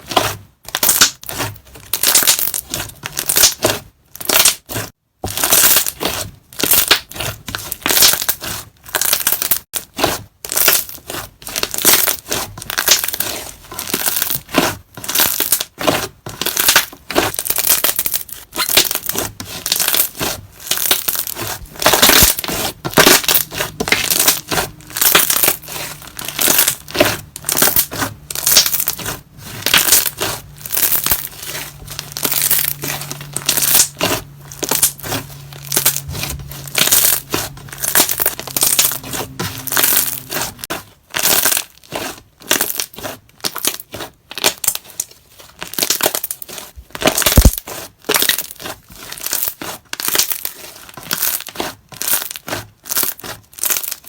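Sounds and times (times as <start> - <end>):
slime squishing: 0.0 - 54.0.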